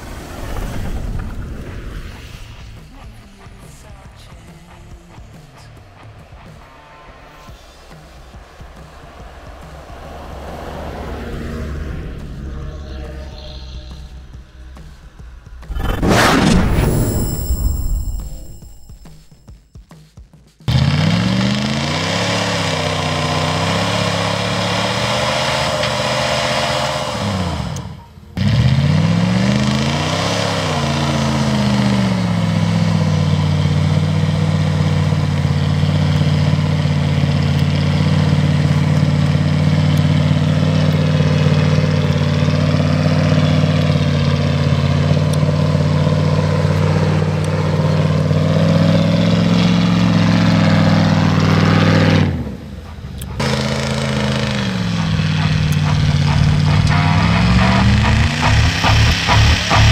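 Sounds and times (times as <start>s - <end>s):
car engine revving: 2.2s - 19.3s, 20.7s - 59.9s.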